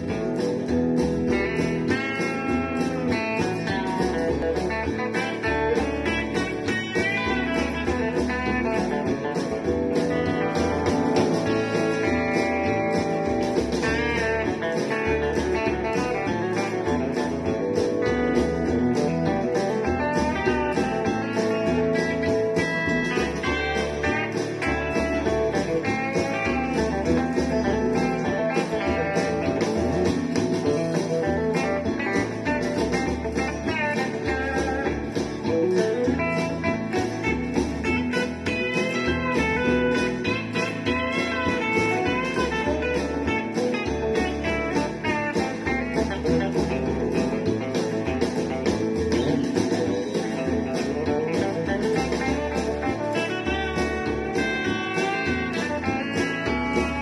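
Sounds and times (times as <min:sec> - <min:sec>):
electric guitar quick picked notes: 0:00.0 - 0:57.0.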